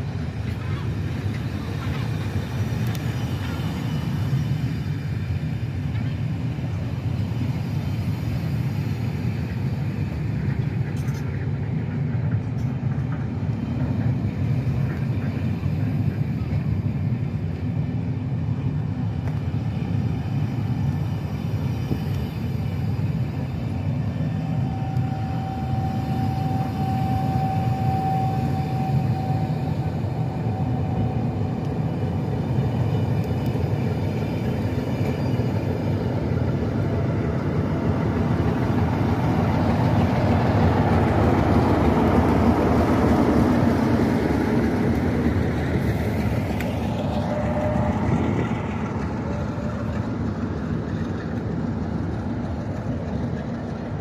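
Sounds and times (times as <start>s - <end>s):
high wheel squeal: 0.0s - 17.4s, 19.6s - 51.6s
diesel locomotive engine: 0.0s - 54.0s
train wheels rumbling on rail: 0.0s - 54.0s.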